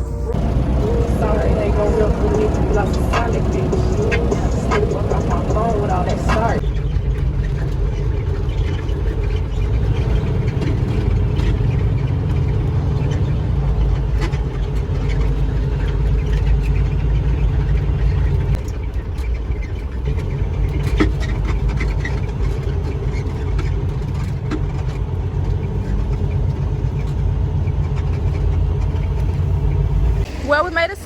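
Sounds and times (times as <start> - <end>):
diesel truck engine rumble: 0.0 - 31.0.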